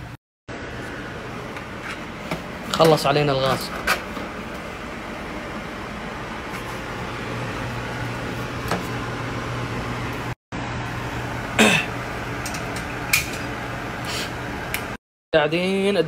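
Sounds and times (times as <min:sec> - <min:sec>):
appliance fan humming: 0:00.0 - 0:16.0.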